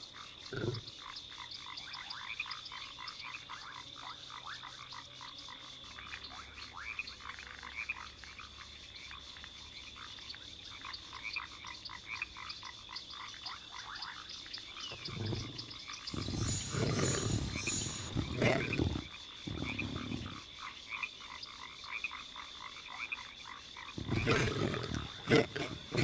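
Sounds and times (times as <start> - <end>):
frogs calling: 0.0 - 26.0.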